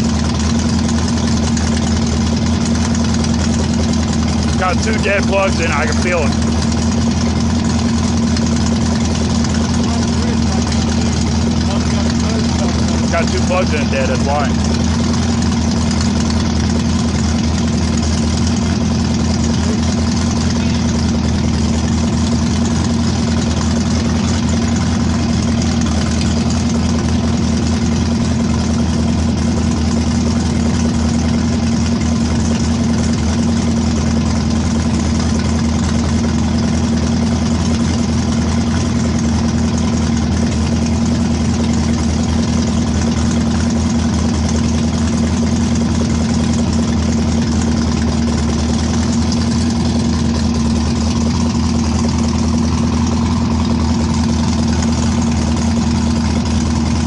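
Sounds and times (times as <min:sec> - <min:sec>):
car engine idling with misfires: 0:00.0 - 0:57.0.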